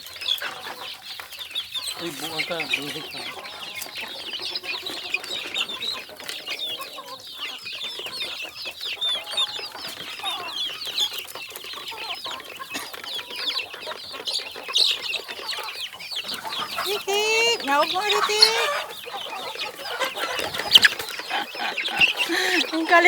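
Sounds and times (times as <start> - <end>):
chickens peeping and clucking: 0.0 - 23.0.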